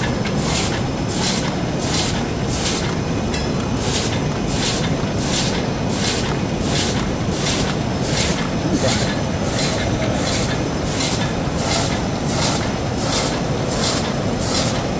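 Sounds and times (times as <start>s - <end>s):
machine running noise: 0.0s - 14.9s.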